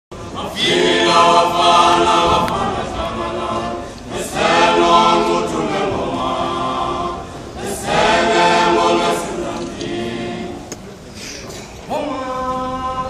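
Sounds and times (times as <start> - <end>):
male choir singing a cappella: 0.2 - 10.9, 11.9 - 13.0.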